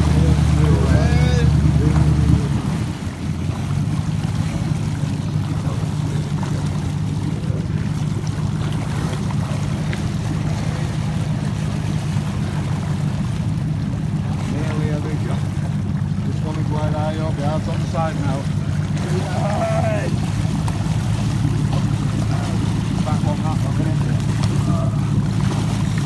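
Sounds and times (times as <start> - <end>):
boat engine humming: 0.0 - 26.0
water noise: 0.0 - 26.0.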